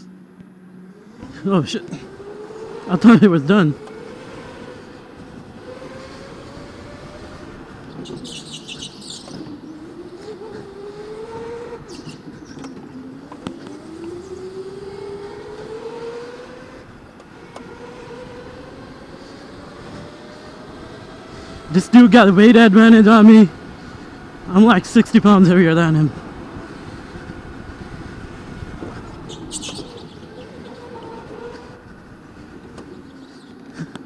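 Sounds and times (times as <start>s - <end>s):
rumble of track noise: 0.0s - 34.0s
electric go-kart motor whining: 0.8s - 24.5s, 25.2s - 34.0s.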